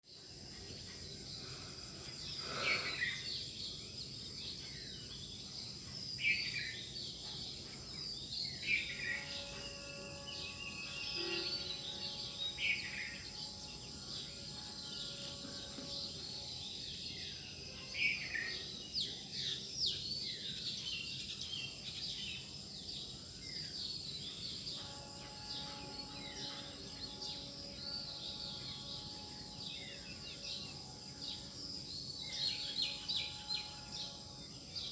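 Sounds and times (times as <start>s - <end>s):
high-pitched insect hum: 0.1s - 34.9s
birds chirping and singing: 0.7s - 34.9s.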